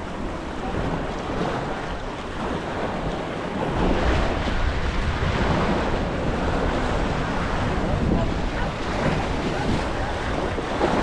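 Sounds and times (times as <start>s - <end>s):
surf washing against rocks: 0.0s - 11.0s
wind rumbling on microphone: 0.0s - 11.0s.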